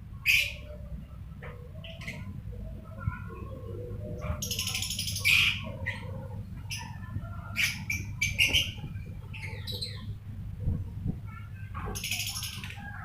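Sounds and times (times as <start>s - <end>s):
lovebirds squawking and chattering: 0.2s - 10.8s, 11.6s - 13.0s.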